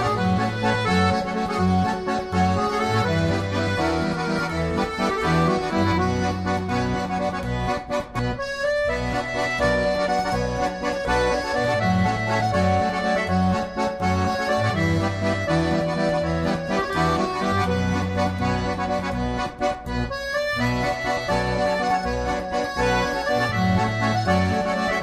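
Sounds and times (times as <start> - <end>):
accordion: 0.0 - 25.0
bass line: 0.0 - 25.0.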